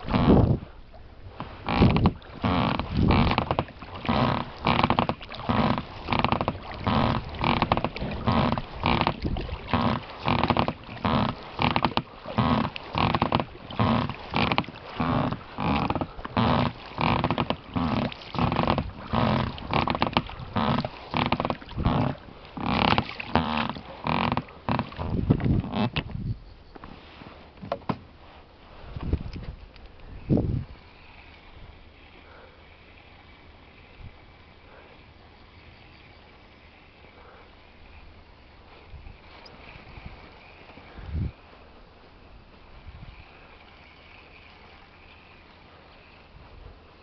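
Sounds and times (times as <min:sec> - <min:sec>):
oars and oarlocks creaking: 0:00.0 - 0:47.0.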